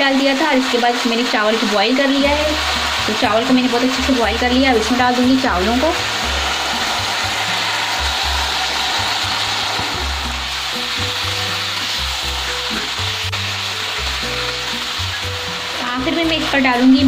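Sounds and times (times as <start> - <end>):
frying sizzle in a wok: 0.0 - 17.0.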